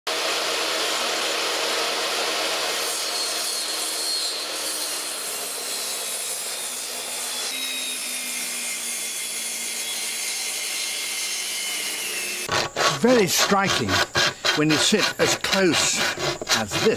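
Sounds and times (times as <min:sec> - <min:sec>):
table saw cutting wood: 0:00.1 - 0:16.9.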